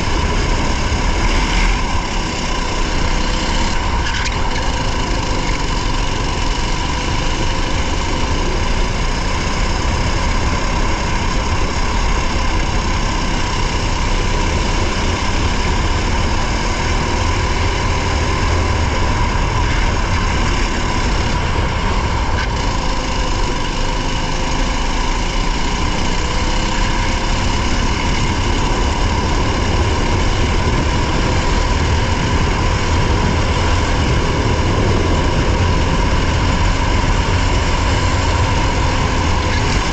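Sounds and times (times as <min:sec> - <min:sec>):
race car engine under load: 0:00.0 - 0:39.9
road and wind rumble: 0:00.0 - 0:39.9.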